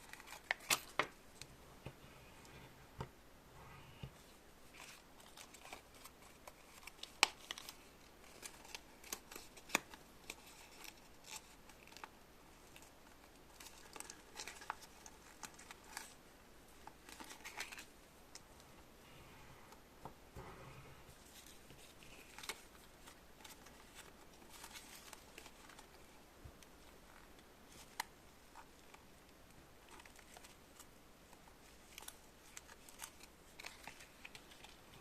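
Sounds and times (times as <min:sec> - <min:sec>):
rustling: 0:00.0 - 0:35.0.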